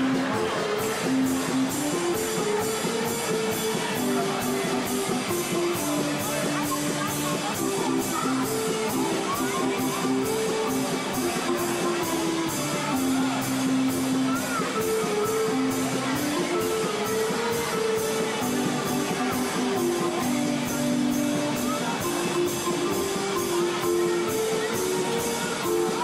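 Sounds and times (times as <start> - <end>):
instrumental music with steady beat: 0.0 - 26.0.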